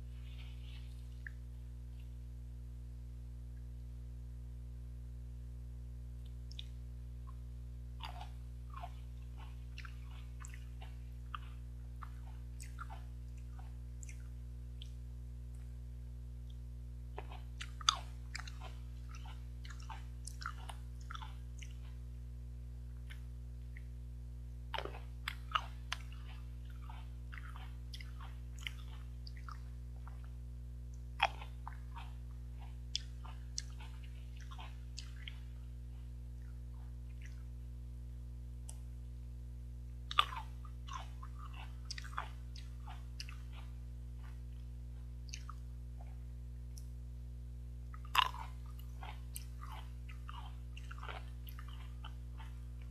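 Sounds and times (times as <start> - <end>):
person chewing grapes: 0.0 - 2.2, 6.2 - 24.0, 24.6 - 37.7, 40.0 - 47.0, 47.8 - 52.9
steady low hum: 0.0 - 52.9.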